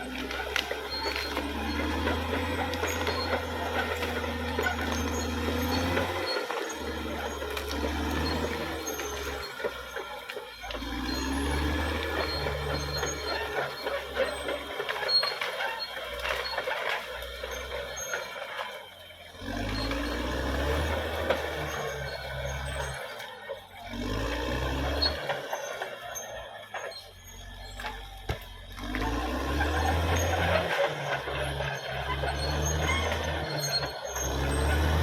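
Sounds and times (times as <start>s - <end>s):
bulldozer diesel engine revving: 0.0s - 35.0s.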